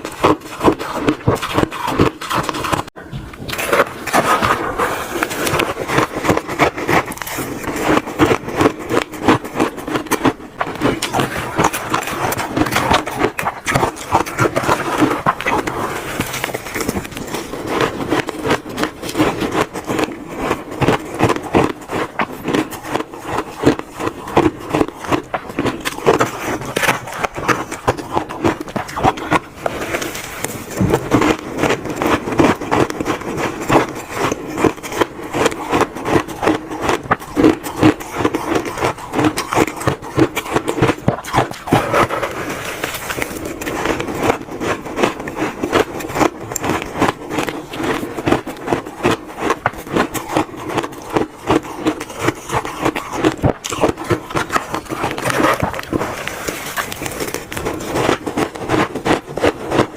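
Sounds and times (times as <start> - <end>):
crunching of shaved ice: 0.0 - 59.9.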